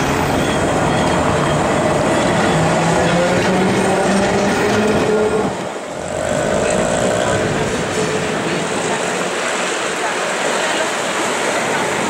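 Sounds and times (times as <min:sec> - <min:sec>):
city street traffic: 0:00.0 - 0:12.0
tram humming on rails: 0:00.0 - 0:12.0.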